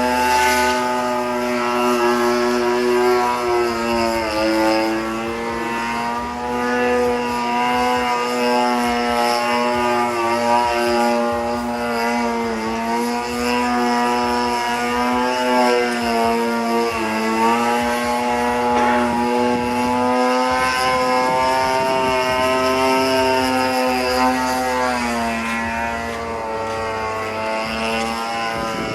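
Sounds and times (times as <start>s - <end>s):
buzzing propeller: 0.0s - 28.9s
model airplane engine running: 0.0s - 28.9s.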